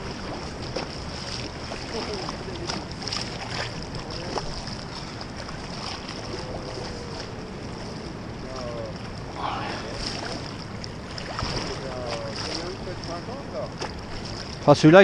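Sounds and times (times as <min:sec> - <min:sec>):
fast river current rushing: 0:00.0 - 0:15.0.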